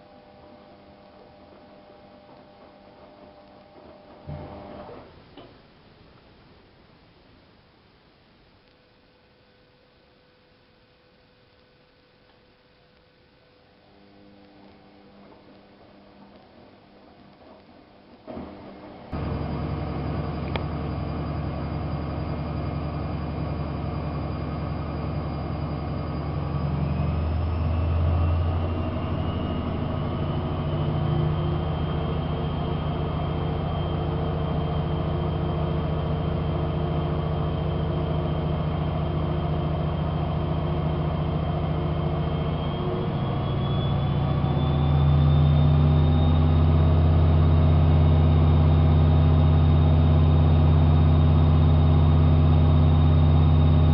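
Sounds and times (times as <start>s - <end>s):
washing machine spinning whine: 0.0s - 5.8s, 13.4s - 53.9s.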